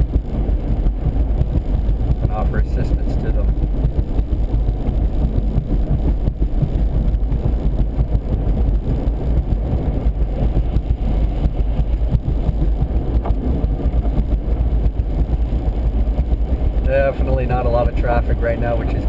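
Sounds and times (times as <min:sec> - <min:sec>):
vehicle driving on highway: 0:00.0 - 0:19.0.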